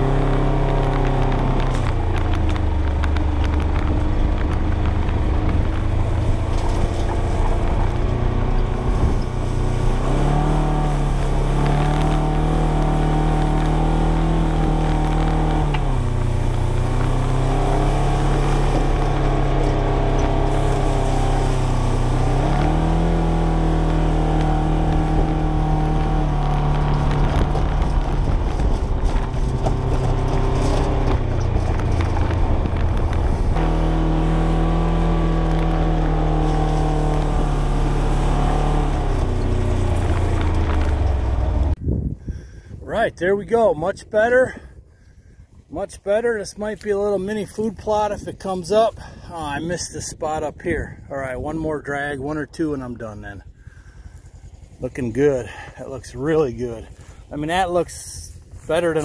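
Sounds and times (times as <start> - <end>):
engine running under load: 0.0 - 41.8, 53.4 - 59.0.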